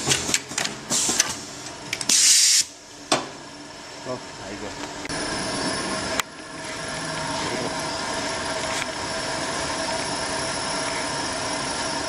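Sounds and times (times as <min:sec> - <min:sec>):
machinery hum and hiss: 0:00.0 - 0:12.0.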